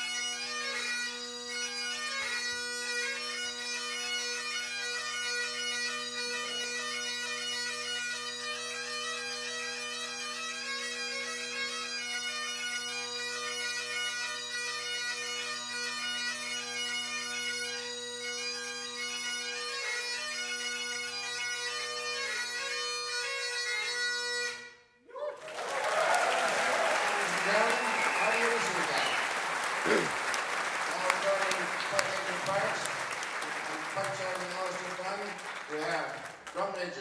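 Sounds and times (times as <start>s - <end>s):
bagpipe drones humming: 0.0s - 24.8s, 25.8s - 35.8s
bagpipe chanter melody: 0.0s - 25.0s, 25.9s - 35.8s.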